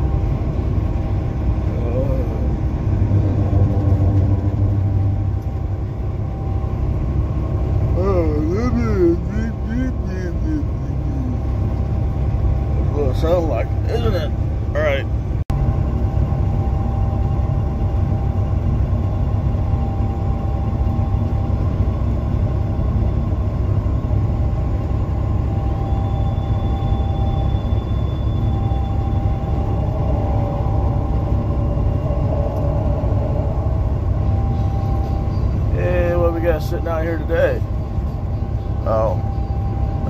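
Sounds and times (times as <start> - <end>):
road noise: 0.0 - 40.0
truck engine drone: 0.0 - 40.0.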